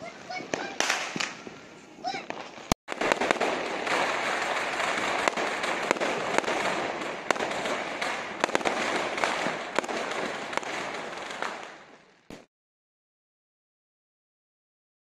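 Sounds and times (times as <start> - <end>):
fireworks crackling: 0.0 - 12.5
fireworks sharp cracks: 0.0 - 12.5.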